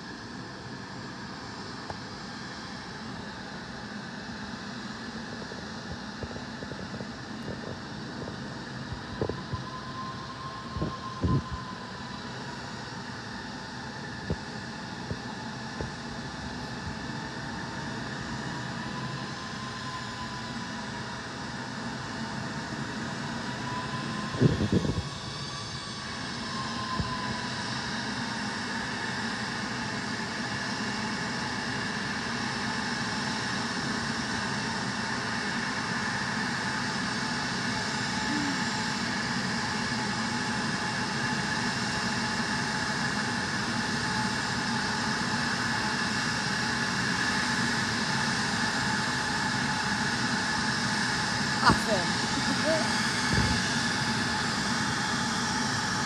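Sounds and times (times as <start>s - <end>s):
jet engine whine taxiing: 0.0s - 56.0s.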